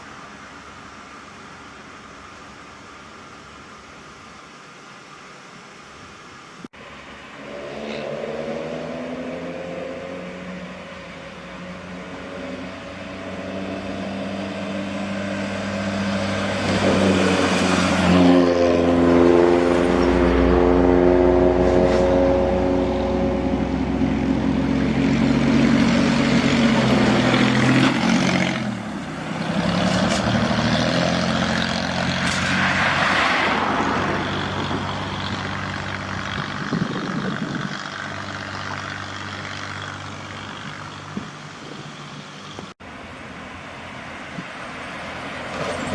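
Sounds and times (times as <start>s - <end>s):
truck diesel engine: 0.0s - 45.9s.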